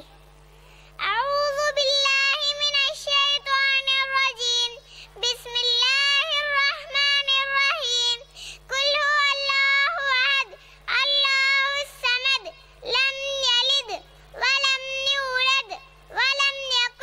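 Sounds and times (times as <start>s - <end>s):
girl chanting: 1.0s - 17.0s.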